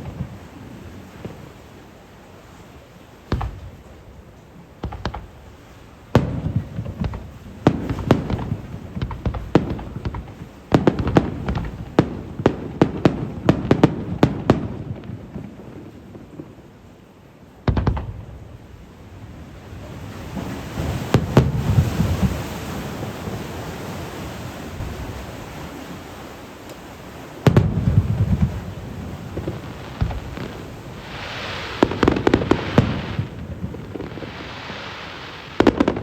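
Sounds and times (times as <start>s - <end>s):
fireworks booming: 0.0s - 1.7s, 3.2s - 16.0s, 17.6s - 26.1s, 27.2s - 36.0s
fireworks bangs and crackles: 0.0s - 16.7s, 17.6s - 36.0s.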